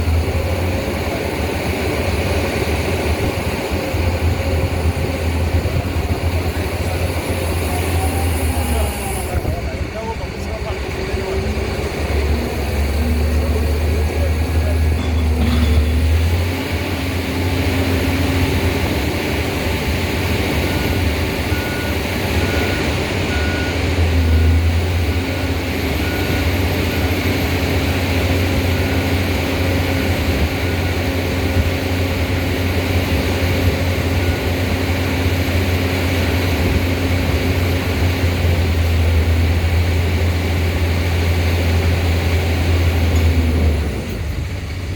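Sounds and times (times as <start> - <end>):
loud machinery drone: 0.0 - 44.9.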